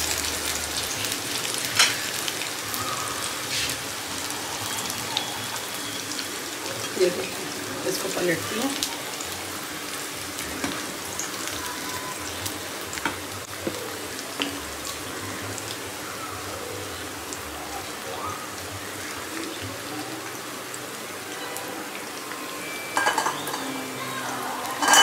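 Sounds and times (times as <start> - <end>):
oil sizzling with pops: 0.0 - 23.9.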